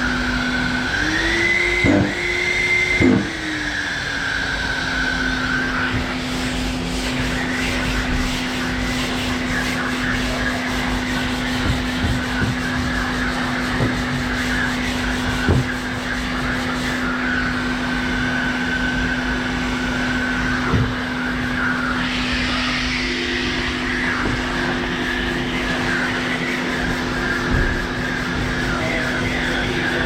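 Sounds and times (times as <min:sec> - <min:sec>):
machine sander running: 0:00.0 - 0:30.0.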